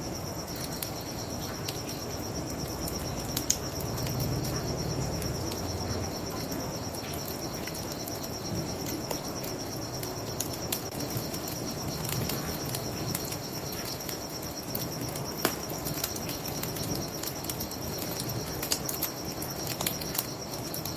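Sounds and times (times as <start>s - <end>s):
crickets trilling: 0.0s - 20.9s
bonfire crackling and popping: 0.1s - 20.9s.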